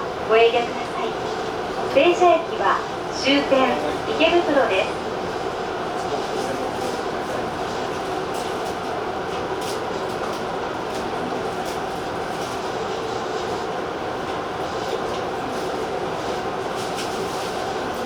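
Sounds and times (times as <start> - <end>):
train rolling with hum: 0.0 - 18.0.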